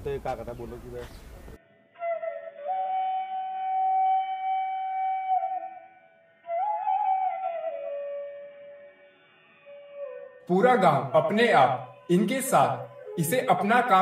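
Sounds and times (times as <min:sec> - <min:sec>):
solo flute playing: 0:01.6 - 0:14.0.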